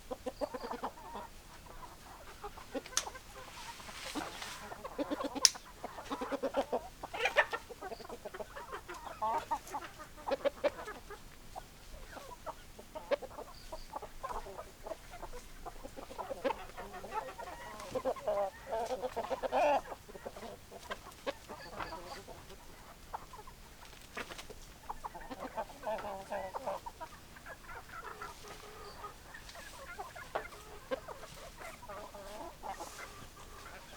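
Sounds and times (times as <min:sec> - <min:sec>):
hens clucking: 0:00.0 - 0:33.9.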